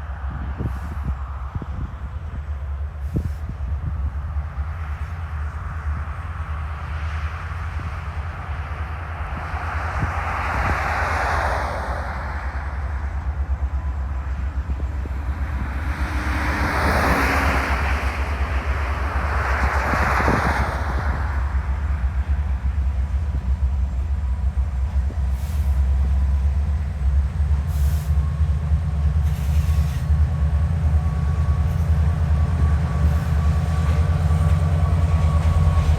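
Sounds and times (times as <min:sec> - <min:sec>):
freight train low rumble: 0:00.0 - 0:35.9
train wheels on rails: 0:00.0 - 0:35.9.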